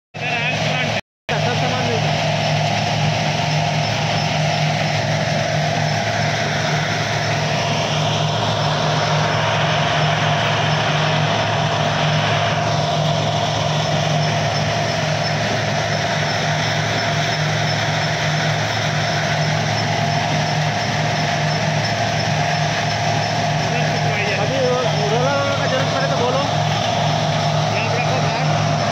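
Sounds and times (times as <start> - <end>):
high whine: 0.2 - 28.9
low hum: 0.2 - 28.9
stone crusher drone: 0.2 - 28.9.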